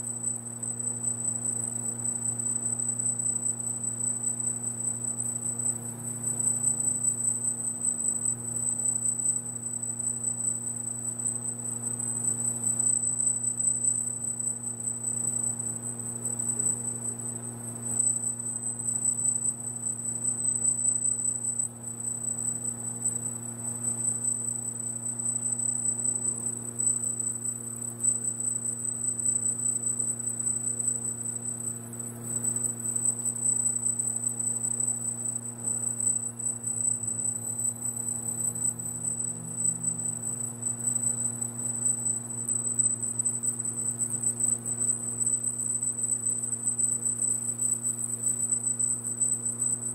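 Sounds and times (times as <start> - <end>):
low electrical hum: 0.0 - 49.9.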